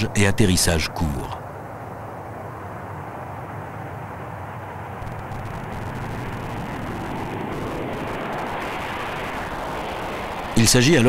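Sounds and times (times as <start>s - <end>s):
jet engines rushing: 0.0s - 11.0s.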